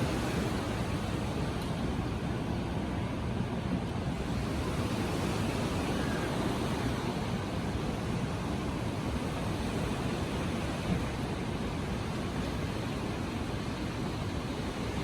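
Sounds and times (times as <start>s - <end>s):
ocean surf washing on beach: 0.0s - 15.0s.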